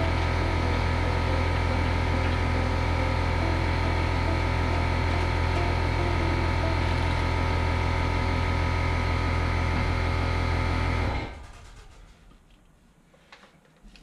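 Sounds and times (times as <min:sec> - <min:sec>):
air compressor motor hum: 0:00.0 - 0:12.4.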